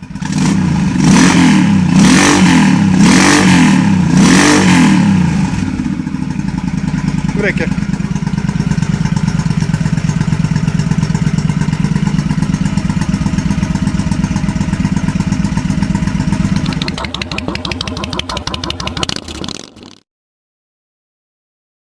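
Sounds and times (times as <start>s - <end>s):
motorcycle engine idling and shutting off: 0.0s - 20.0s.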